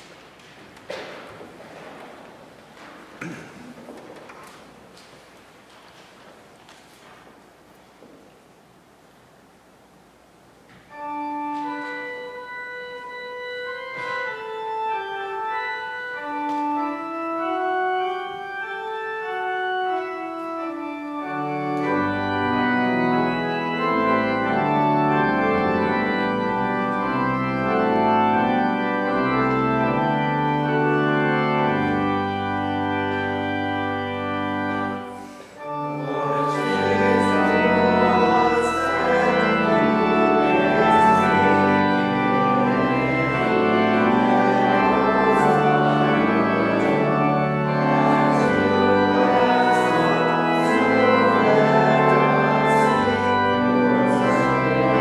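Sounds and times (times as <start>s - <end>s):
organ playing slow melody: 9.4s - 55.0s.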